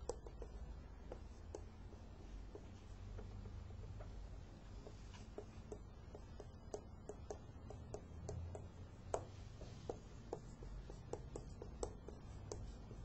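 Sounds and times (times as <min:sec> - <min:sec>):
chalk tapping on board: 0:00.0 - 0:13.0.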